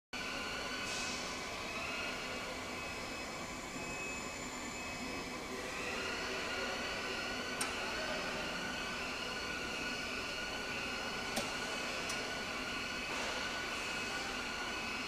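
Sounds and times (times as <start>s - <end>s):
machine whir: 0.2s - 15.0s.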